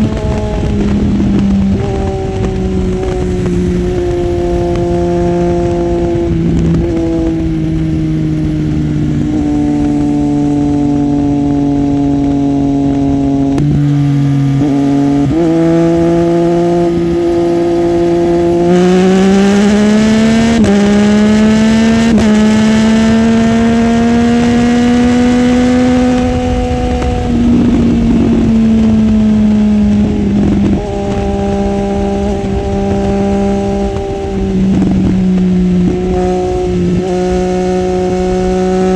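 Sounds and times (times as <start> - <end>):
motorcycle engine revving: 0.0 - 38.9
wind rushing: 0.0 - 38.9.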